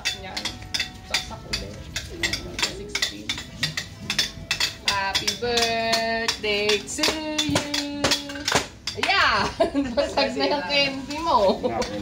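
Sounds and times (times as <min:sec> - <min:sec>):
cutlery and dishes clinking: 0:00.0 - 0:09.5, 0:10.1 - 0:12.0.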